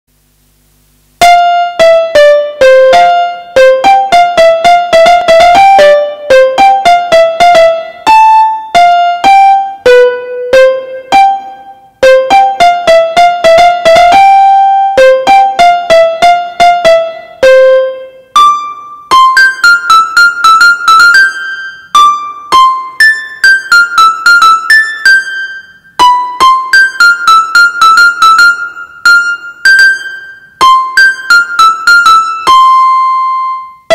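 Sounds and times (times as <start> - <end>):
keyboard piano melody: 1.2 - 33.9.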